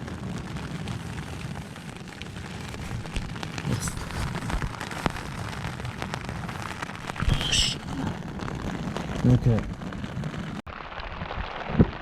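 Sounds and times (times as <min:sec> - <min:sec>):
heavy rain: 0:00.0 - 0:12.0
raindrops tapping: 0:02.0 - 0:12.0.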